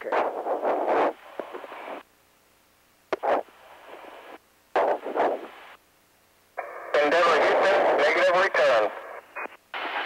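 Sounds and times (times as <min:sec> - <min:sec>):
radio hiss: 0:00.0 - 0:02.1, 0:03.1 - 0:05.9, 0:06.5 - 0:10.0.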